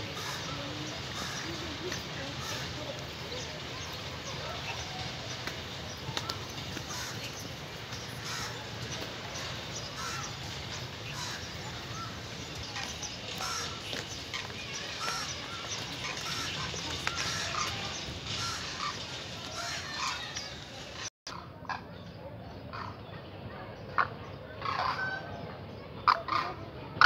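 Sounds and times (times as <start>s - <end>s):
birds calling: 0.0s - 27.0s.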